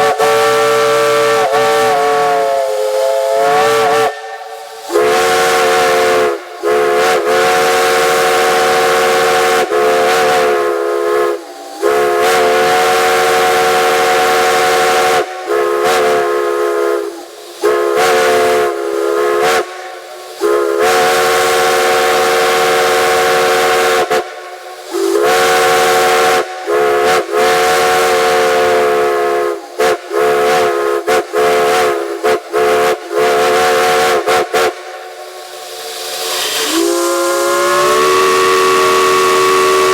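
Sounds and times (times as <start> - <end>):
hiss of steam: 0.0 - 39.9
steam locomotive chime whistle: 0.0 - 39.9.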